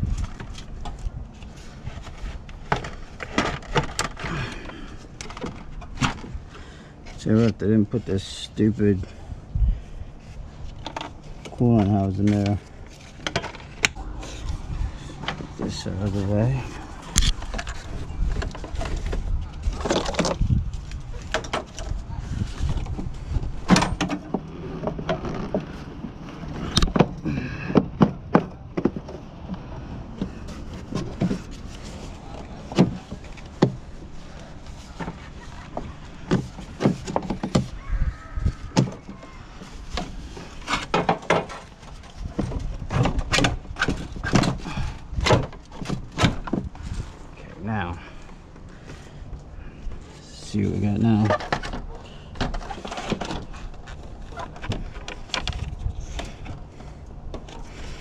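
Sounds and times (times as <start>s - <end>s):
plastic parts clicking and creaking: 0.0s - 7.7s, 10.2s - 47.0s, 50.8s - 58.0s.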